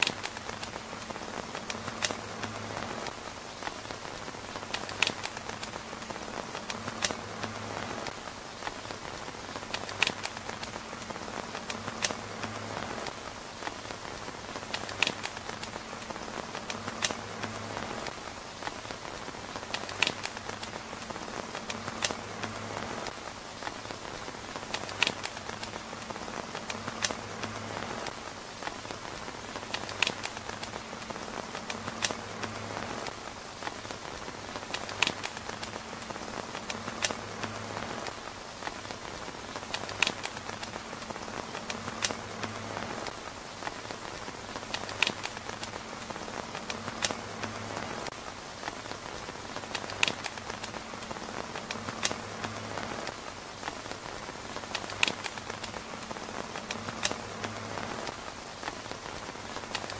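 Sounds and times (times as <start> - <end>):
sharp clicks: 0.0 - 18.8, 19.5 - 33.9, 34.5 - 48.8, 49.5 - 58.9
rain pattering on a tent roof: 0.0 - 59.9.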